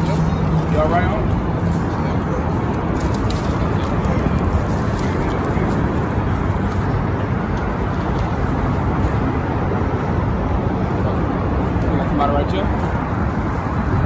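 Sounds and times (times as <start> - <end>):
traffic rumble under overpass: 0.0 - 14.0.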